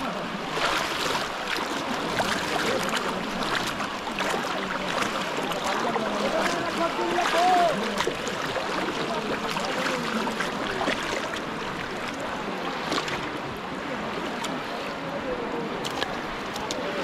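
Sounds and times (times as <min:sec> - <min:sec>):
distant crowd voices: 0:00.0 - 0:17.0
water sloshing and splashing: 0:00.0 - 0:17.0.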